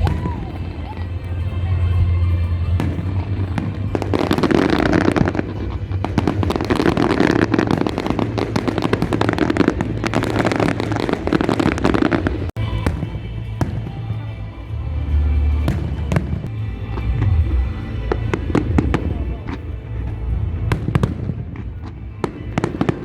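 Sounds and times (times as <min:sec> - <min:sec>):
fireworks crackling and popping: 0:00.0 - 0:14.4, 0:15.1 - 0:23.0.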